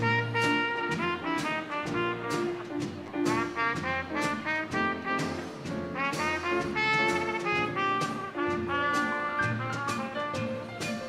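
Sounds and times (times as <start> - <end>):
jazz band playing: 0.0 - 11.0
trumpet: 0.0 - 11.0.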